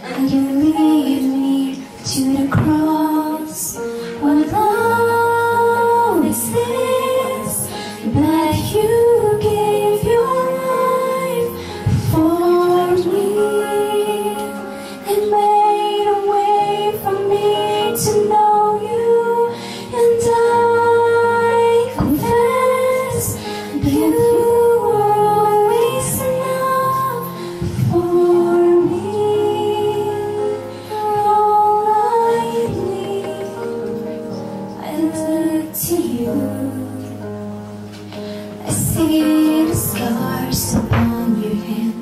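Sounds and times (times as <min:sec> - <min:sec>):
woman singing worship song: 0:00.0 - 0:37.5, 0:38.5 - 0:42.0
instrumental accompaniment: 0:00.0 - 0:42.0.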